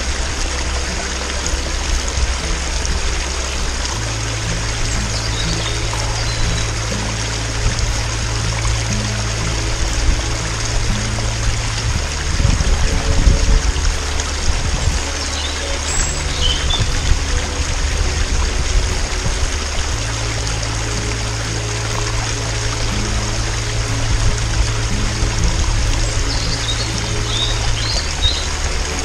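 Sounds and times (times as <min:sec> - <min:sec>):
music of low held notes: 0:00.0 - 0:29.0
stream trickling: 0:00.0 - 0:29.0.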